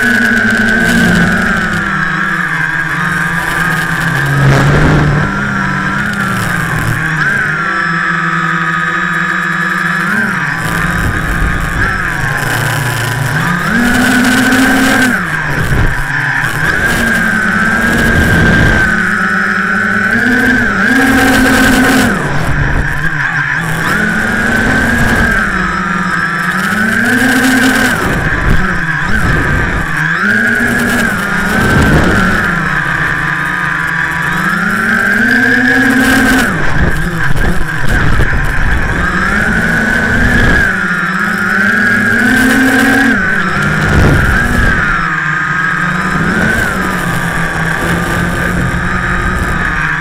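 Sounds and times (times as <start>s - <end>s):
quadcopter motors whining: 0.0s - 50.0s.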